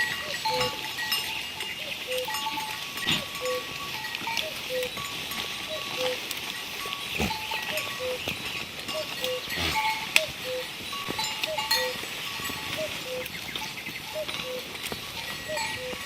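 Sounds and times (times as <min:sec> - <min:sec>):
farm animal sounds: 0:00.0 - 0:16.0
goat bells clanking: 0:00.0 - 0:16.0.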